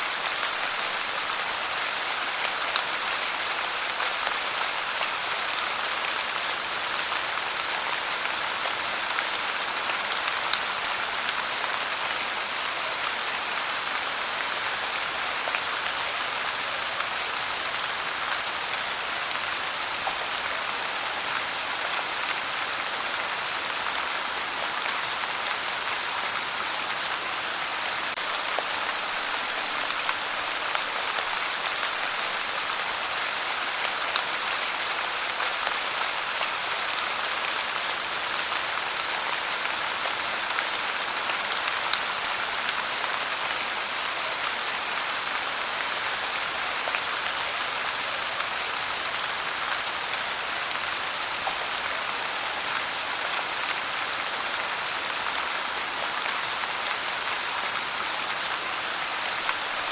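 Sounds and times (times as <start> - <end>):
rain pattering on a surface: 0.1 - 59.9.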